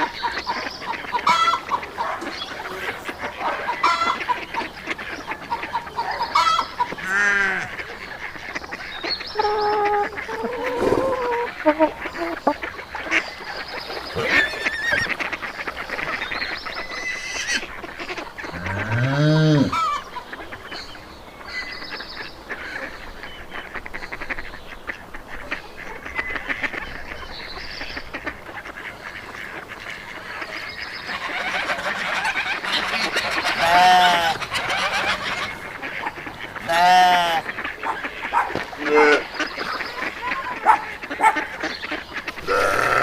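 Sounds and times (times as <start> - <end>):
geese honking: 0.0 - 43.0
poultry calling: 0.0 - 43.0.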